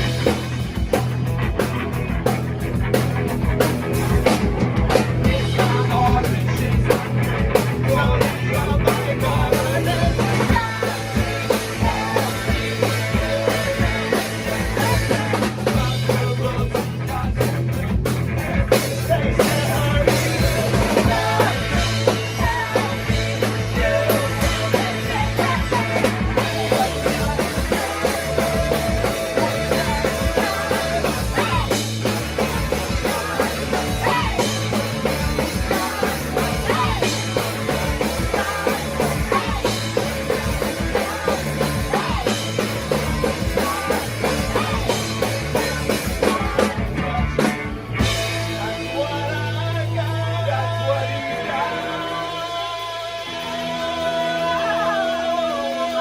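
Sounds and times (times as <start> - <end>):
bass guitar: 0.0 - 56.0
distorted electric guitars: 0.0 - 56.0
driving drum kit: 0.0 - 56.0
person singing: 5.2 - 17.8, 18.7 - 47.5, 48.2 - 56.0.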